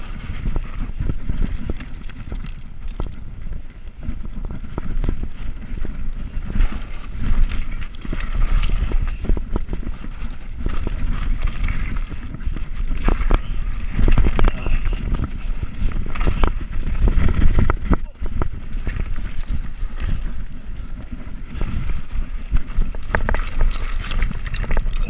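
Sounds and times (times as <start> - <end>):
bicycle clicks and rattles: 0.0 - 25.0
wind rumbling on microphone: 0.0 - 25.0.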